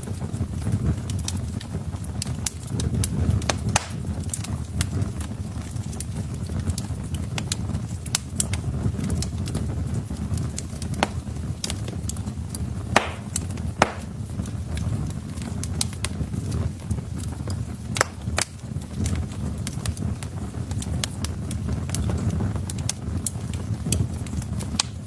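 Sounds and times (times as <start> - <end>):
fire pops and snaps: 0.0 - 25.0
wood fire crackling: 0.0 - 25.0.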